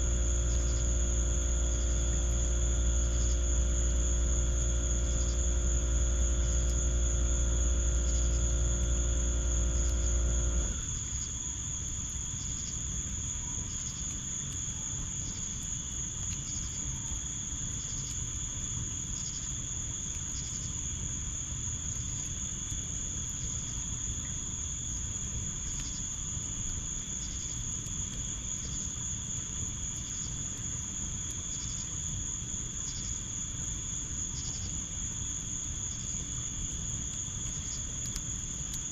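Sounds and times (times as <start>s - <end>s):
cricket chirping: 0.0s - 38.9s
crickets trilling: 0.0s - 38.9s
low mechanical hum: 0.0s - 38.9s.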